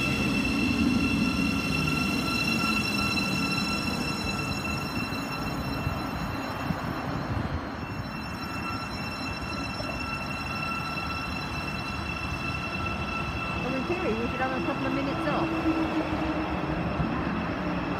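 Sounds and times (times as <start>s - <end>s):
low train rumble: 0.0s - 17.9s
train electrical whine: 0.0s - 17.9s.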